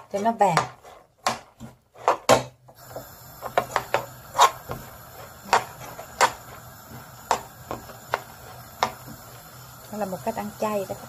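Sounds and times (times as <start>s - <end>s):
spoon knocking and scraping pan: 0.0s - 9.8s
frying hiss: 0.0s - 11.0s.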